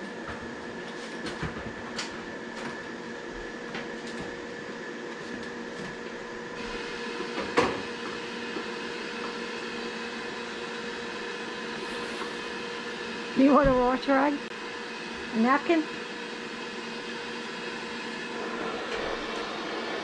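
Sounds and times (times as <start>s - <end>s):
furnace motor hum: 0.0s - 20.0s.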